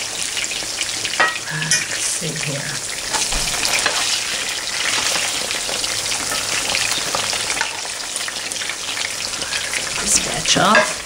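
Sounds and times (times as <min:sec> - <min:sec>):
oil sizzling and popping: 0:00.0 - 0:11.0.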